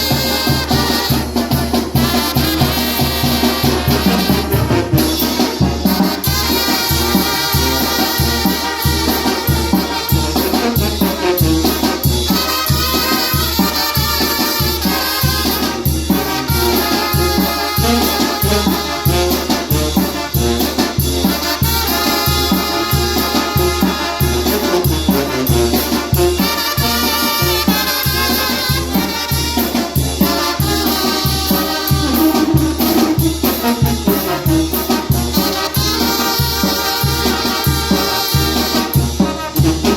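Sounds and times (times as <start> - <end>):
salsa music: 0.0 - 39.9
trumpet melody: 0.0 - 39.9.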